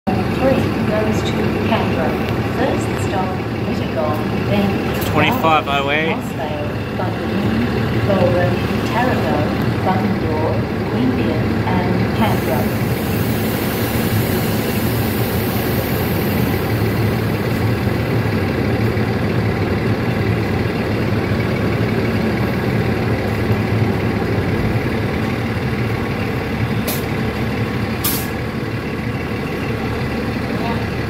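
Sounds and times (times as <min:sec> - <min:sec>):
diesel engine idling: 0:00.1 - 0:31.0.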